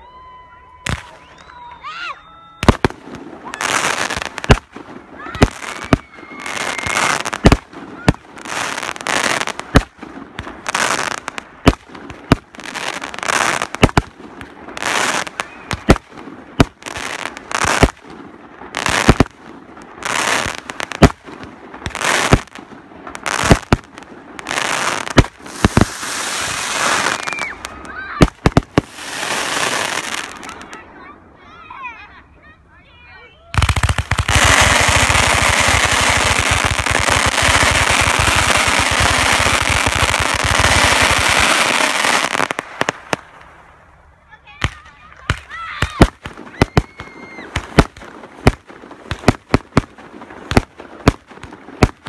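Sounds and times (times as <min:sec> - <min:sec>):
fireworks bangs: 0:00.8 - 0:31.0, 0:33.5 - 0:43.8, 0:44.5 - 0:52.0
fireworks crackling: 0:00.8 - 0:32.2, 0:33.0 - 0:52.0.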